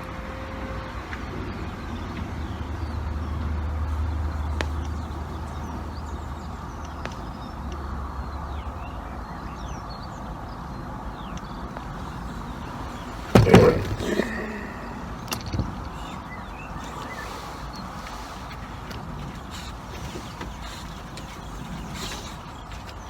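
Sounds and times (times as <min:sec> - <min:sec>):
small birds chirping: 0:01.8 - 0:23.0.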